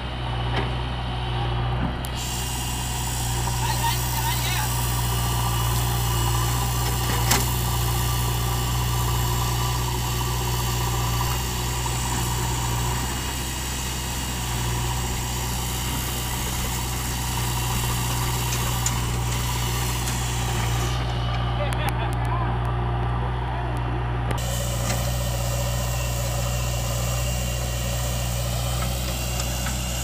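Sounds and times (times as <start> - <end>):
diesel engines idling: 0.0 - 30.0.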